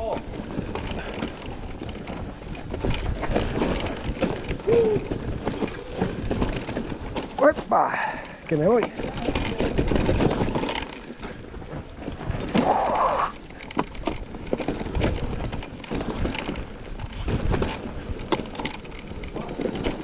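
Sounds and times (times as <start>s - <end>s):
bike rattling over ground: 0.0s - 20.0s
wind buffeting microphone: 0.0s - 20.0s.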